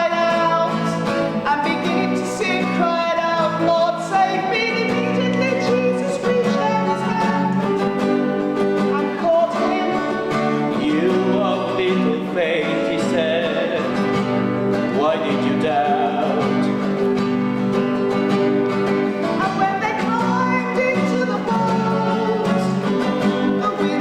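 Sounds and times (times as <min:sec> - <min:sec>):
person singing: 0:00.0 - 0:17.0, 0:19.1 - 0:24.0
plucked acoustic guitar: 0:00.0 - 0:24.0.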